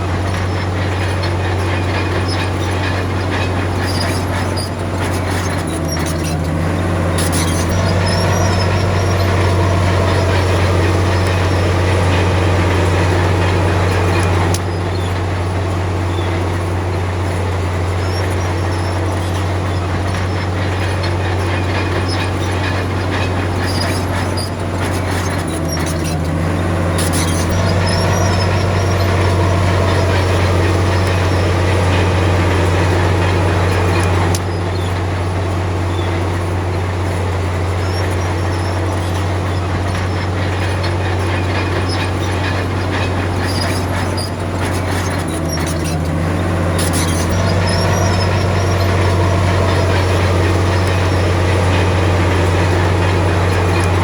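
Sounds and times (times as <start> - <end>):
diesel engine under load: 0.0 - 54.0
steel tracks clanking and squealing: 0.0 - 54.0.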